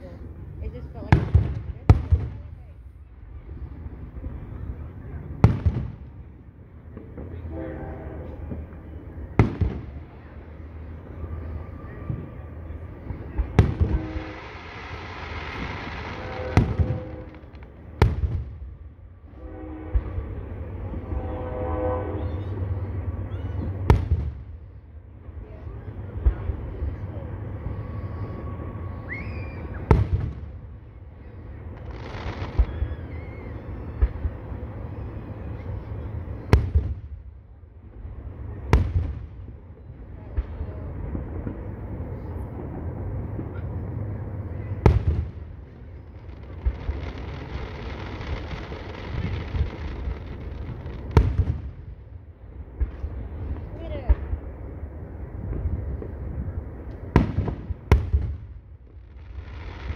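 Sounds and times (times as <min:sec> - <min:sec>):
fireworks crackling: 0:00.0 - 0:07.6, 0:08.2 - 0:19.1, 0:29.1 - 0:37.3, 0:38.0 - 0:59.9
fireworks booming: 0:00.9 - 0:21.2, 0:23.1 - 0:24.9, 0:26.1 - 0:59.9.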